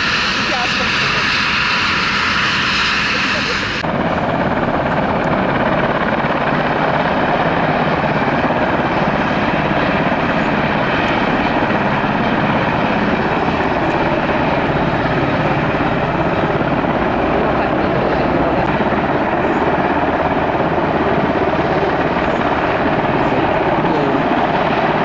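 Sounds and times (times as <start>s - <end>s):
helicopter running: 0.0s - 25.0s.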